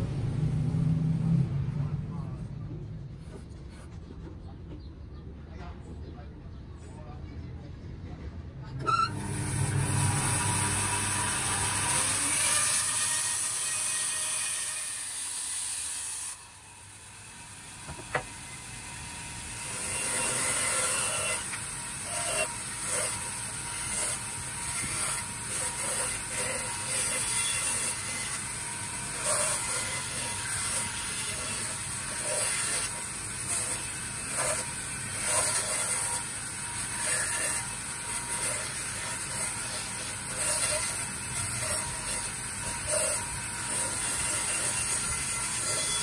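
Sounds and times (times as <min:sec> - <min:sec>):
band saw cutting wood: 0:08.8 - 0:46.0.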